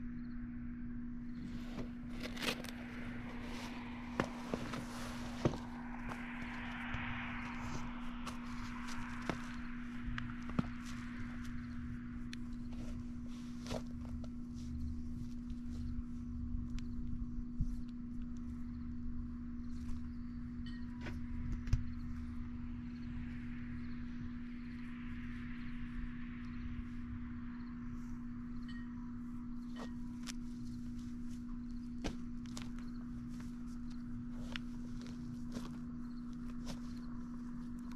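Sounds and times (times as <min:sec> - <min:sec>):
steady low hum: 0:00.0 - 0:37.9
wind rumbling on microphone: 0:01.2 - 0:37.9.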